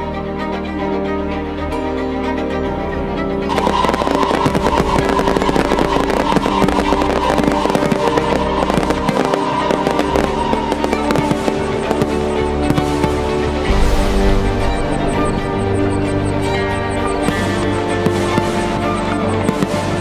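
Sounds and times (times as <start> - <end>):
music playing: 0.0 - 20.0
fireworks cracking and popping: 3.5 - 20.0.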